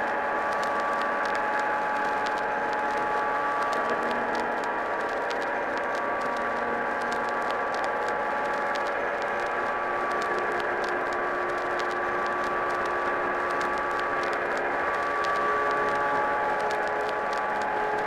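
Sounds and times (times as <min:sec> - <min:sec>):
hazy droning tones: 0:00.0 - 0:18.0
steady hiss: 0:00.0 - 0:18.0
vinyl crackle: 0:00.0 - 0:18.0.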